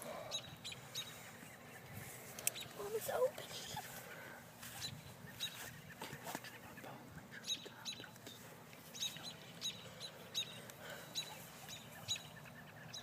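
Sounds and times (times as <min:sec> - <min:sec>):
small bird chirping: 0:00.3 - 0:03.8, 0:04.8 - 0:13.0.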